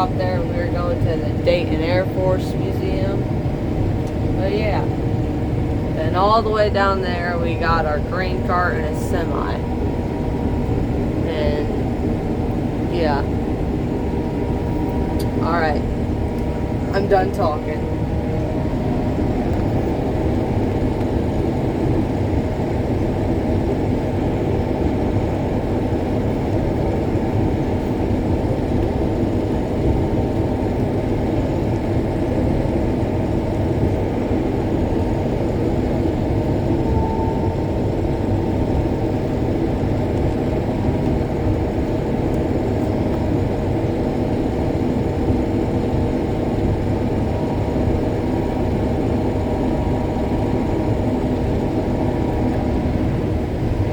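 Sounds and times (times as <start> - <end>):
combine harvester engine drone: 0.0 - 53.9.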